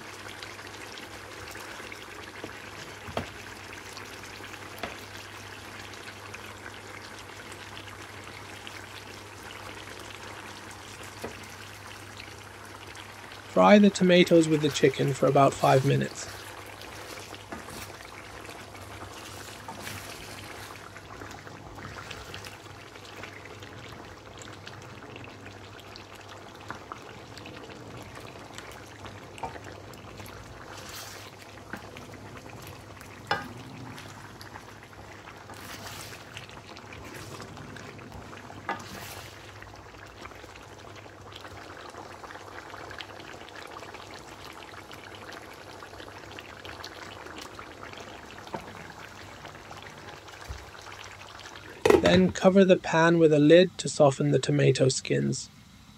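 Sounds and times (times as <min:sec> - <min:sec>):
chicken frying in hot oil: 0:00.0 - 0:53.4.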